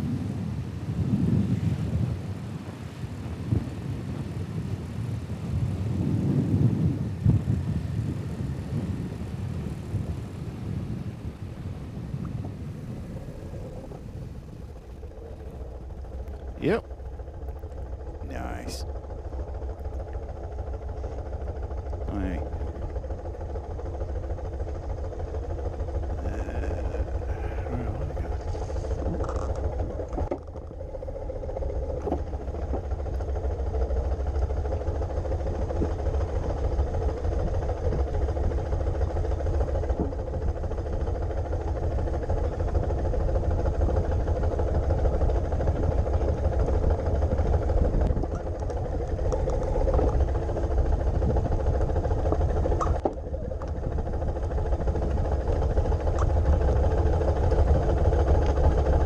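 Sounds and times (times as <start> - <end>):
motorcycle engine running: 5.6 - 59.0.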